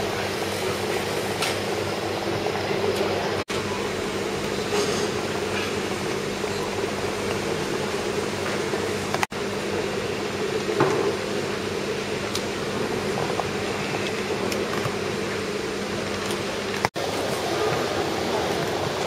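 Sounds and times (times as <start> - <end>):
terminal hall room noise: 0.0 - 19.0
ventilation hum: 0.0 - 19.0.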